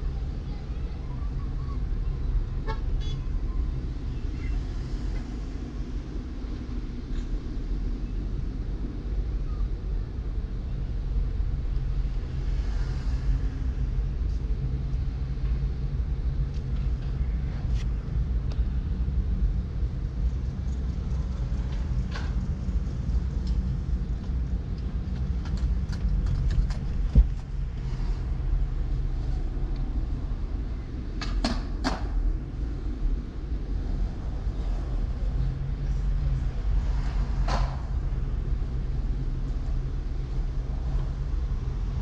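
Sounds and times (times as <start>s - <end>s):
car road and engine rumble: 0.0s - 42.0s.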